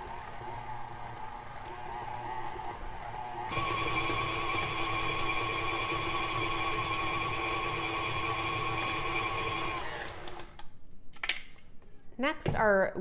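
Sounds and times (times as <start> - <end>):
stand mixer motor whining: 0.0 - 10.5.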